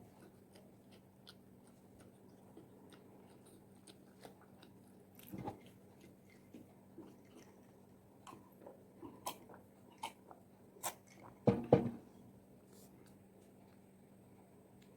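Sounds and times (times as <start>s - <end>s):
chewing with soft crunches: 0.0s - 11.4s, 12.2s - 14.9s.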